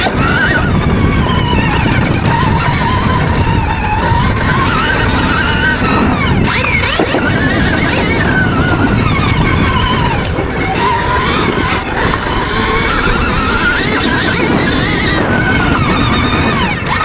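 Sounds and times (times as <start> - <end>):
rough low rumble: 0.0 - 16.7
electric motor whining: 0.0 - 17.0.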